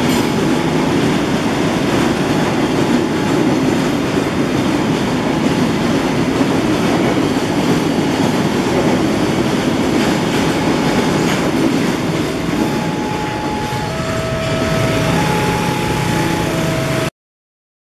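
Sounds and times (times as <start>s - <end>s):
train wheels rumbling and clattering: 0.0s - 17.1s.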